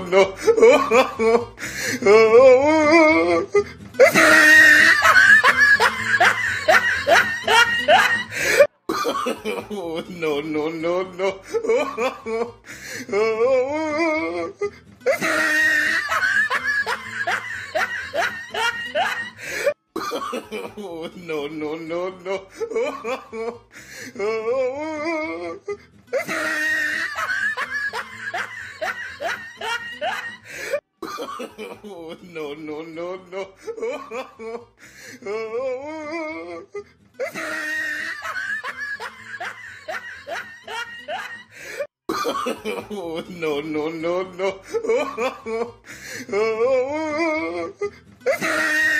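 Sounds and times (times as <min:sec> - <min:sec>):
music: 0:00.0 - 0:19.7, 0:20.7 - 0:30.8, 0:36.4 - 0:41.8, 0:42.9 - 0:48.9
person laughing hard: 0:00.0 - 0:48.9.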